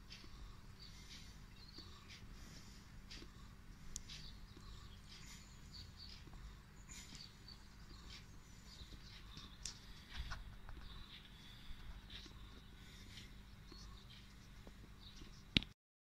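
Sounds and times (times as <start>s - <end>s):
small songbirds chirping: 0.0s - 15.7s.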